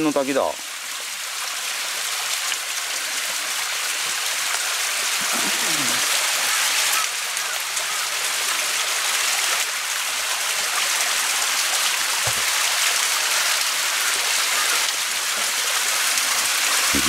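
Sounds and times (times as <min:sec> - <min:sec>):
waterfall splashing: 0:00.0 - 0:17.0.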